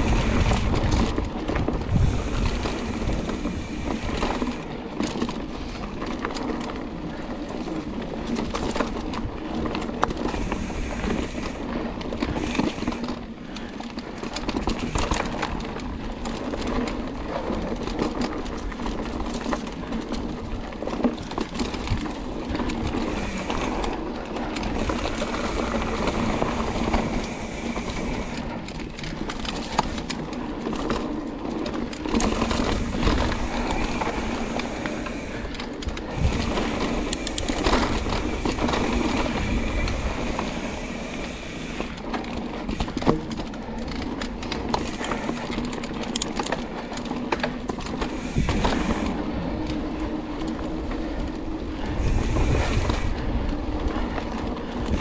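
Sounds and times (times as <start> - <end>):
tyres rolling over dirt: 0.0 - 55.0.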